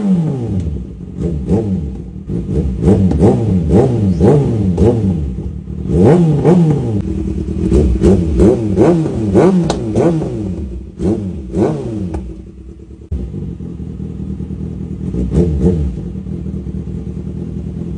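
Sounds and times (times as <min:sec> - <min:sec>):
motorcycle engine revving and idling: 0:00.0 - 0:17.9.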